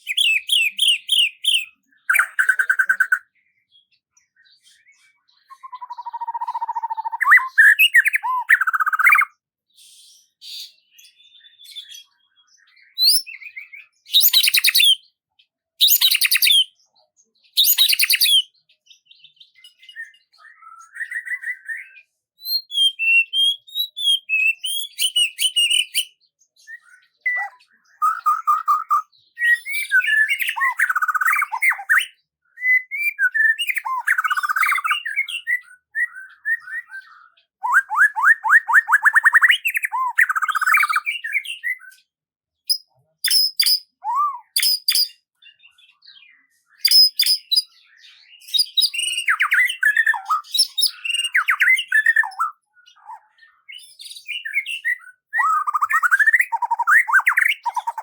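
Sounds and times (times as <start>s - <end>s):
songbird chirps and trills: 0.0s - 58.0s.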